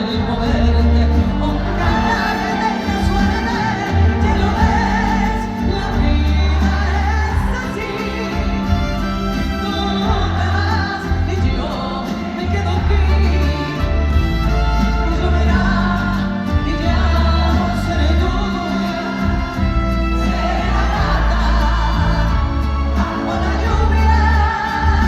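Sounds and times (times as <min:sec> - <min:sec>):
heavy bass line: 0:00.0 - 0:25.0
live band playing: 0:00.0 - 0:25.0
woman singing: 0:00.0 - 0:25.0.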